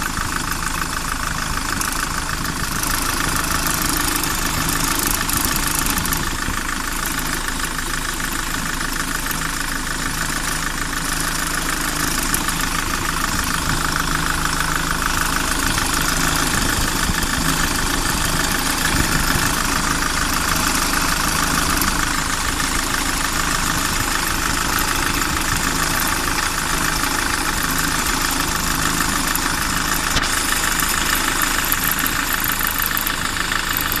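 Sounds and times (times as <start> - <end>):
car engine idling: 0.0 - 34.0
fast even engine ticking: 0.0 - 34.0.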